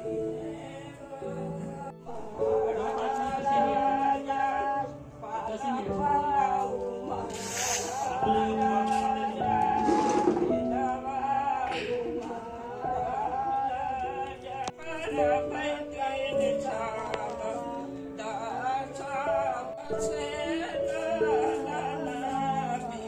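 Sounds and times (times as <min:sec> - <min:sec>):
person singing: 0:00.0 - 0:23.0.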